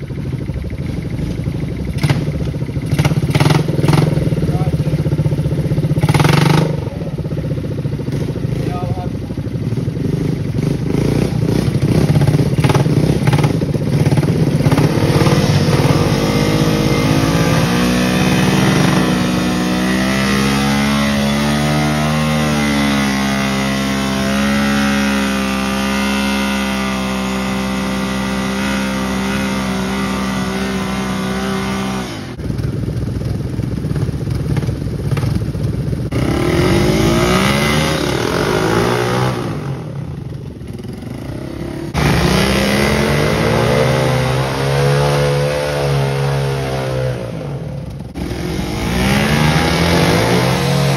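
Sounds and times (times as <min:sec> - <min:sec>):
quad engines revving: 0:00.0 - 0:50.9.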